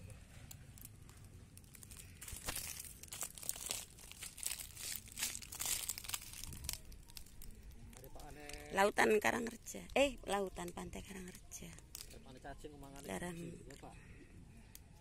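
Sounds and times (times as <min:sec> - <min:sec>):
crinkling and crunching: 0:00.0 - 0:13.9.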